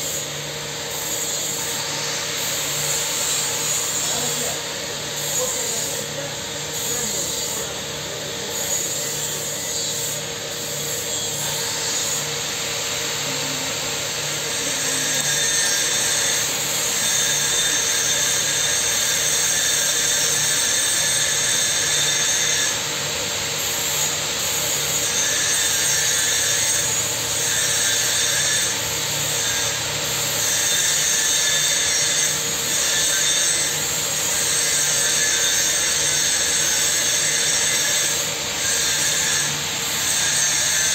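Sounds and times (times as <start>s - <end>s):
constant machine hum: 0.0s - 40.9s
continuous machine hiss: 0.0s - 40.9s.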